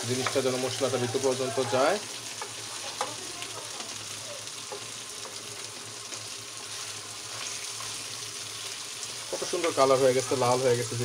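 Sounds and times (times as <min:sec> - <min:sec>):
crab sizzling in a frying pan: 0:00.0 - 0:11.0.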